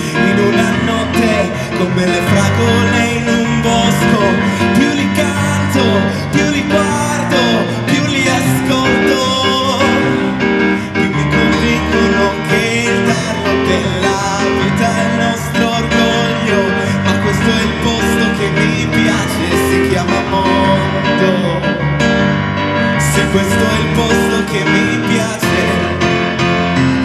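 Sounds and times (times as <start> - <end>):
lead vocals singing: 0.0 - 21.8, 22.9 - 26.3
live pop band with piano: 0.0 - 27.0.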